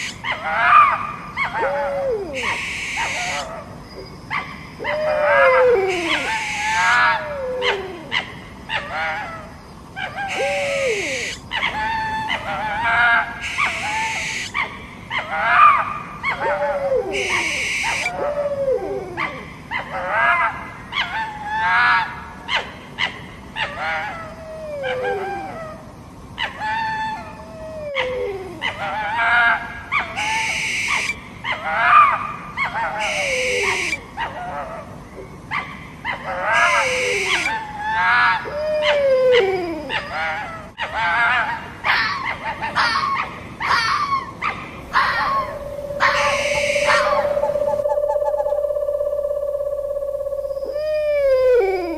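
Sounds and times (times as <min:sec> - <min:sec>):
fox-like yelps and whines: 0:00.0 - 0:51.9.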